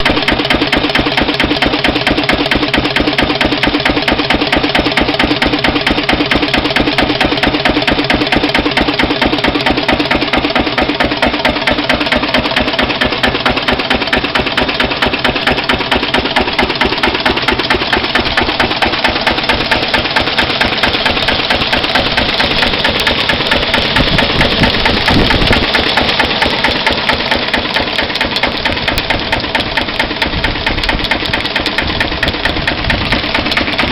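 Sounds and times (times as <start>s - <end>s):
stationary diesel engine running: 0.0s - 33.9s.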